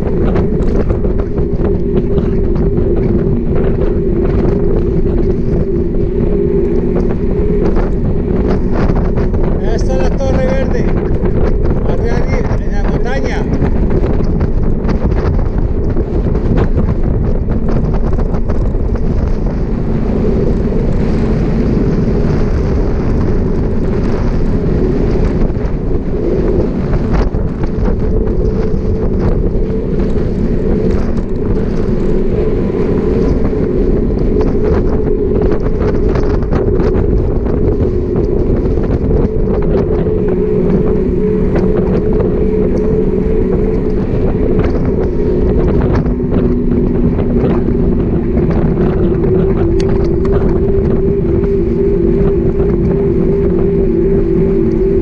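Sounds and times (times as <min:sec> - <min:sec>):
bike rolling on asphalt: 0:00.0 - 0:55.0
wind buffeting microphone: 0:00.0 - 0:55.0.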